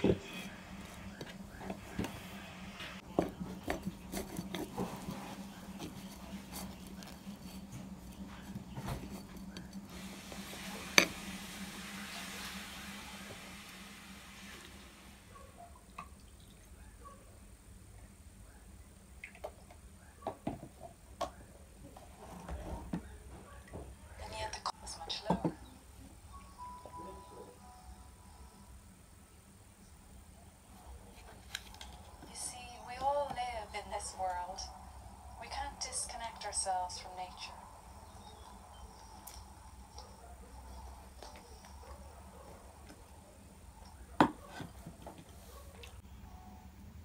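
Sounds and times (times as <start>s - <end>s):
steady low hum: 0.0s - 15.8s, 21.0s - 44.2s.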